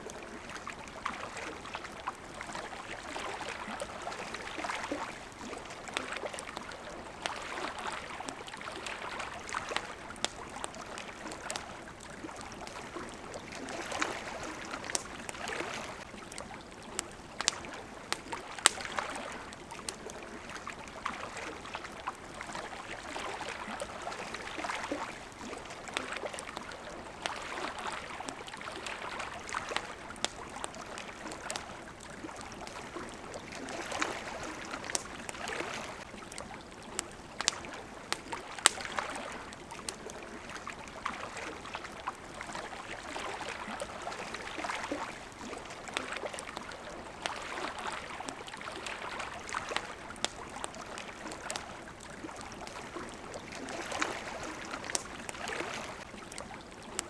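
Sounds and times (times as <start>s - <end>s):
campfire crackling: 0.0s - 57.0s
water lapping at shore: 0.0s - 57.0s.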